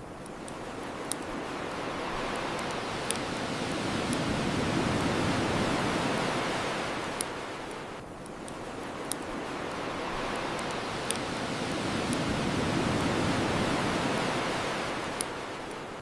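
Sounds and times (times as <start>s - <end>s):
ocean waves washing on shore: 0.0s - 16.0s
bonfire crackling pops: 0.2s - 14.3s.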